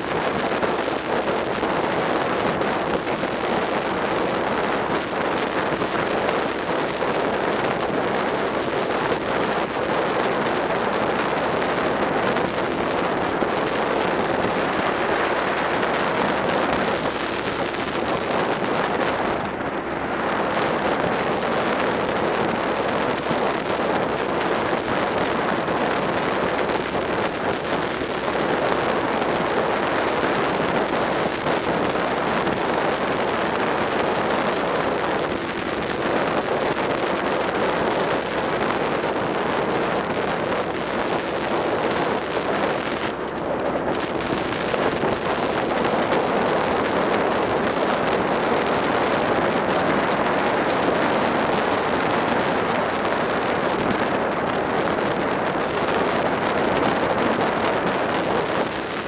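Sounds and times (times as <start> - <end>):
road noise: 0.0 - 59.0
wind rushing over microphone: 0.0 - 59.0.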